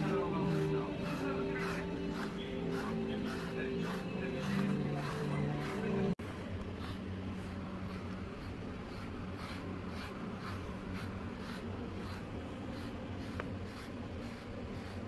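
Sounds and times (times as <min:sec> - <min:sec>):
brush raking through cat fur: 0:00.0 - 0:15.0.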